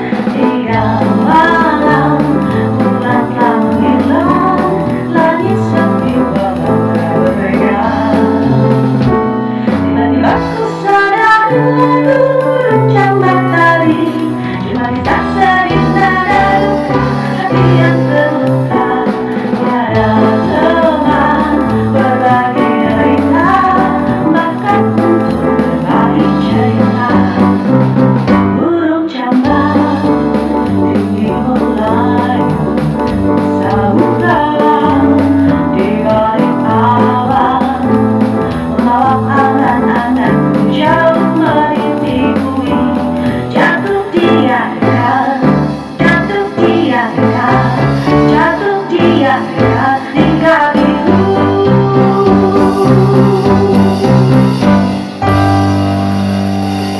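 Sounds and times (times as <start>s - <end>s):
woman singing: 0.0s - 54.2s
electric keyboard: 0.0s - 56.9s.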